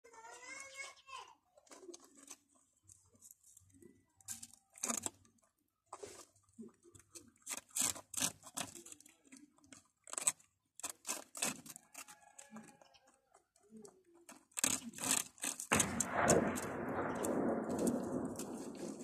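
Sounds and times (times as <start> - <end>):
rabbits crunching food: 0.1 - 19.0.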